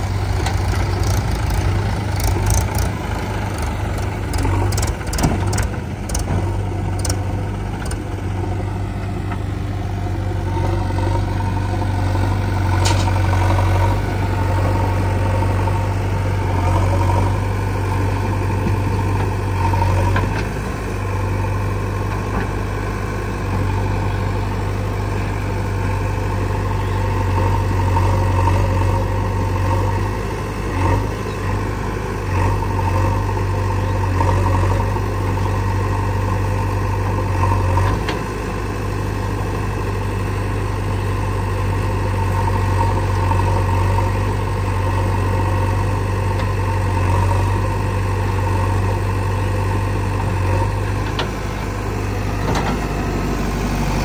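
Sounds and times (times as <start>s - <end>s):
diesel engines idling: 0.0s - 54.0s.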